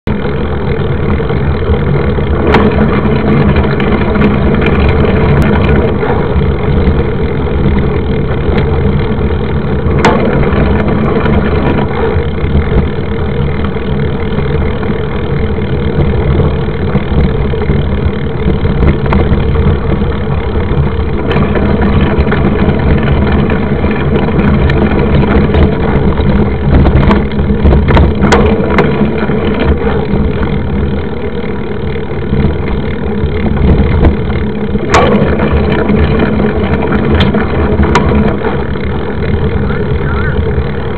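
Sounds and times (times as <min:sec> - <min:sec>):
bike knocking and rattling: 0:00.0 - 0:40.9
tyres rolling over gravel: 0:00.1 - 0:40.9
wind buffeting camera: 0:00.1 - 0:40.9.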